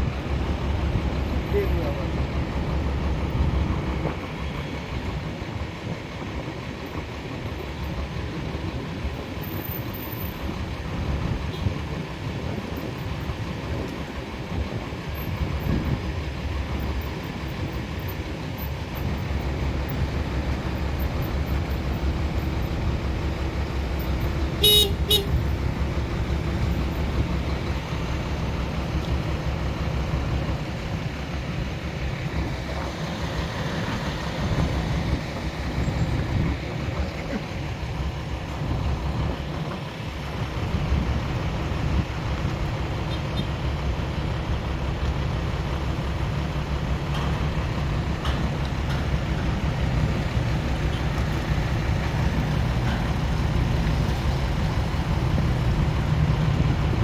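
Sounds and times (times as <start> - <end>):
low rumble of motor vehicles: 0.0 - 57.0.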